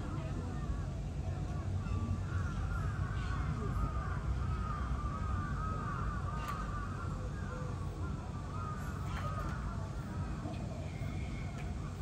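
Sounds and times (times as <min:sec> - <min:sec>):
crows cawing: 0:01.8 - 0:12.0.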